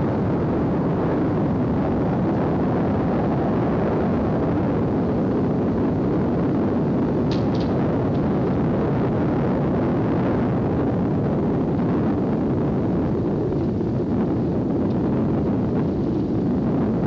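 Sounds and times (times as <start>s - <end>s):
vehicle engine and tyre rumble: 0.0s - 17.0s
wind buffeting microphone: 0.0s - 17.0s.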